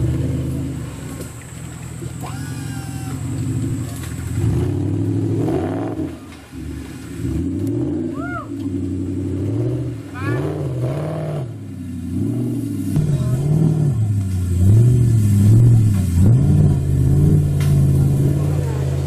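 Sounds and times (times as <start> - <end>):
engine revving hard: 2.2 - 19.0.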